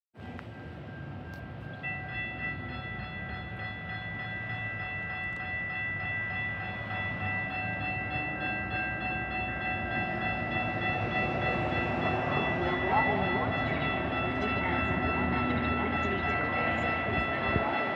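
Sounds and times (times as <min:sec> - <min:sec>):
train rumble: 0:00.2 - 0:17.9.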